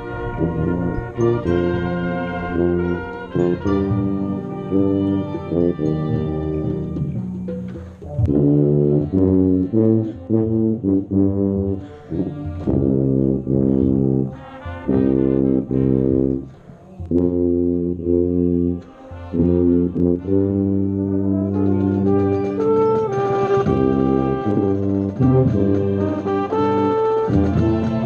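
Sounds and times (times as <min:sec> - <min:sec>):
marching band brass playing: 0:00.0 - 0:28.0
tuba notes: 0:00.0 - 0:28.0.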